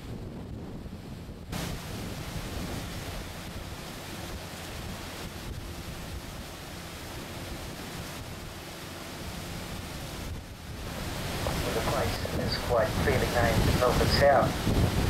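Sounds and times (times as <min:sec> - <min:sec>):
water rushing past boat: 0:00.0 - 0:15.0
wind buffeting microphone: 0:00.0 - 0:15.0
faint low engine hum: 0:01.9 - 0:14.8.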